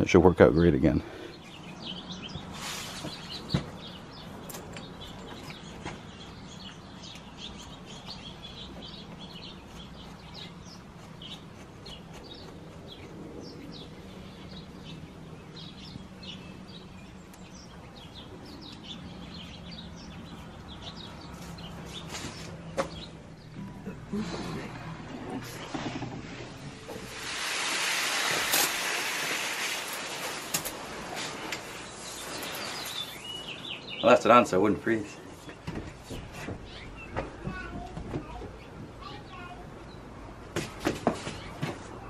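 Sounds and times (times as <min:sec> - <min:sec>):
small birds chirping: 0:00.0 - 0:27.2, 0:28.1 - 0:42.0.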